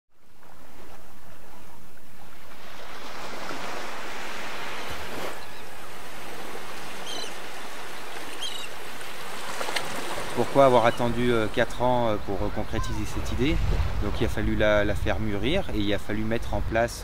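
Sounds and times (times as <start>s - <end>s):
small waves lapping on beach: 0.1s - 15.7s.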